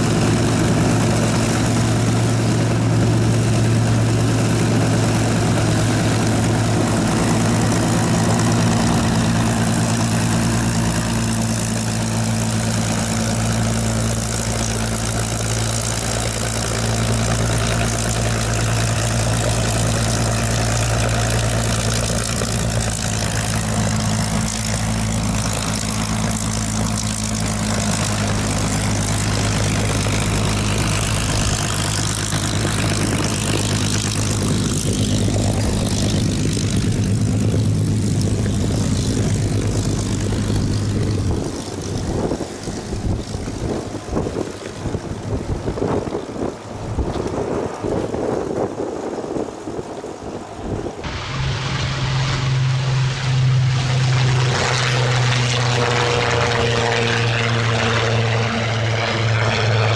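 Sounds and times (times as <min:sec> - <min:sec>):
aircraft engine idling: 0:00.0 - 0:47.9, 0:49.5 - 0:59.9.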